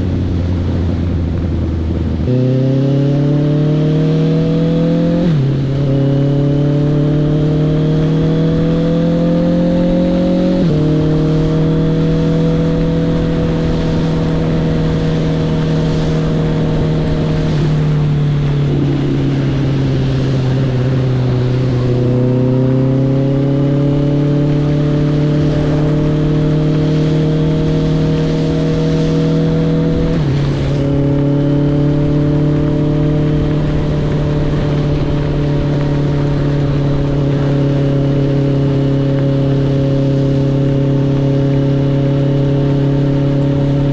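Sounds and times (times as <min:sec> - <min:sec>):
motorcycle engine revving: 0:00.0 - 0:43.9
wind and road noise: 0:00.0 - 0:43.9.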